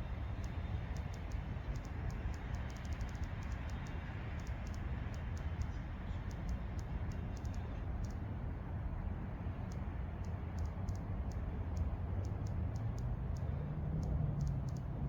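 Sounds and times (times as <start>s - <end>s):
steady low rumble: 0.0s - 15.0s
high-pitched clicks: 0.4s - 8.2s, 9.6s - 14.9s.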